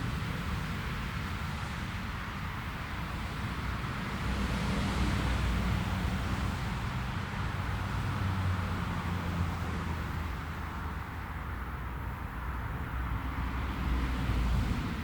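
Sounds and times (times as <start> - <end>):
jet engines rumble and hiss: 0.0 - 15.0.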